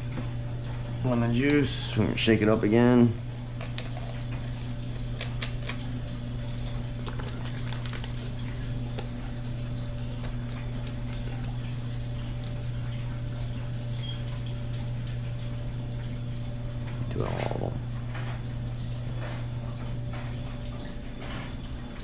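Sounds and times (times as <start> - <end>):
steady low hum: 0.0 - 22.0
faint water trickling: 0.1 - 22.0.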